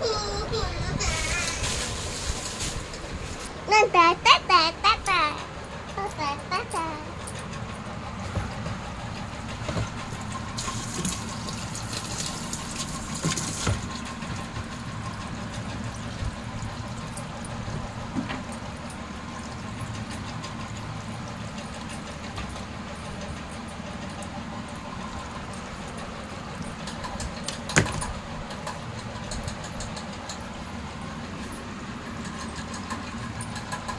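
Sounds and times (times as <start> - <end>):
washing machine humming: 0.0 - 33.9.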